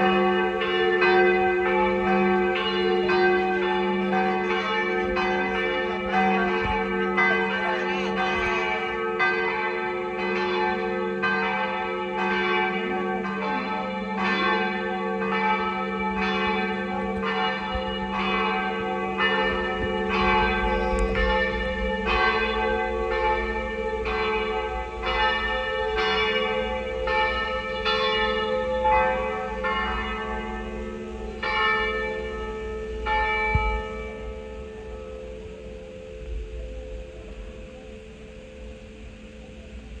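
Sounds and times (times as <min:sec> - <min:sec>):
church bells ringing: 0:00.0 - 0:40.0.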